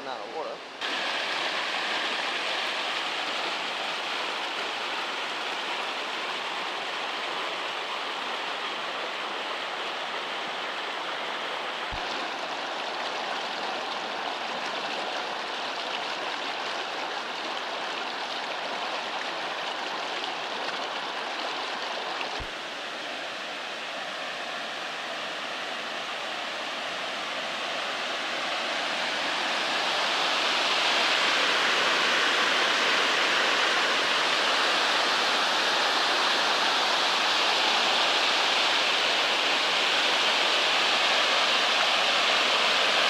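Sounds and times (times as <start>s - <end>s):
stream rushing down rocks: 0.0s - 43.0s.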